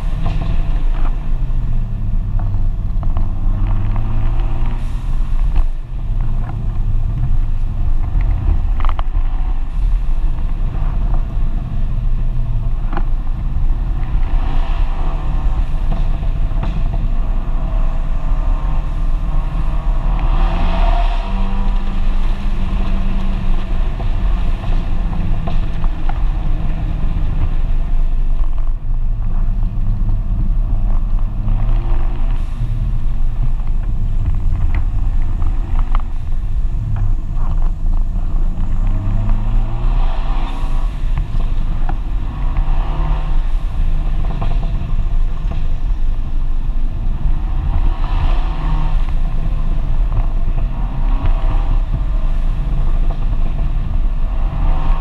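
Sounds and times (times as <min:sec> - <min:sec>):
car engine and exhaust accelerating: 0:00.0 - 0:55.0
wind and road noise: 0:00.0 - 0:55.0.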